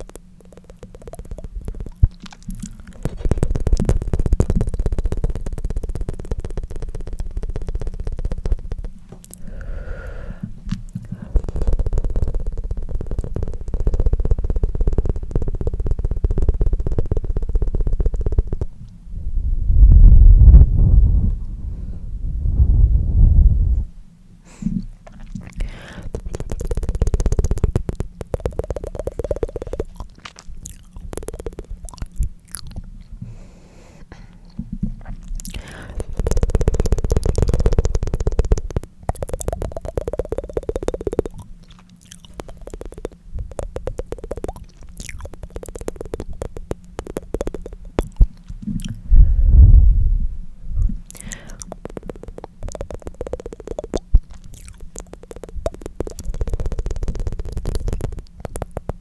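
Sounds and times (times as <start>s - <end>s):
tongue fluttering and clicking: 0.0s - 21.8s, 22.4s - 59.0s.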